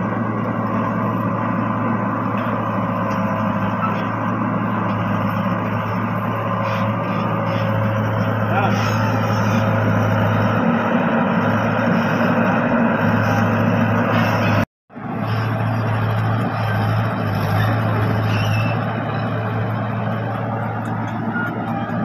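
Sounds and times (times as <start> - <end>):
excavator diesel engine drone: 0.0 - 22.0.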